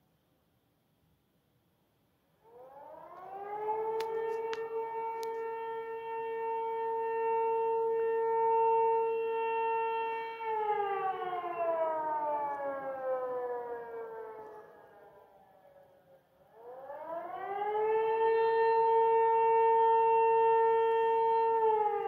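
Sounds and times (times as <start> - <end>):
fire siren wailing: 2.4 - 22.0.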